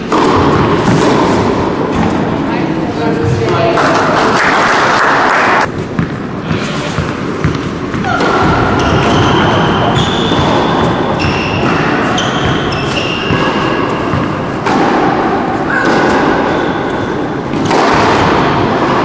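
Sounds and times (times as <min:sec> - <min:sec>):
racket hitting tennis ball: 0:00.0 - 0:02.4, 0:05.6 - 0:19.0
tennis ball bouncing indoors: 0:00.0 - 0:19.0.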